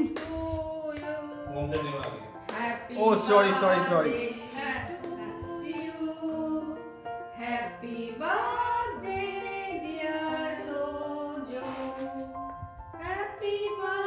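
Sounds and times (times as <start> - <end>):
music with singing: 0.0 - 14.0.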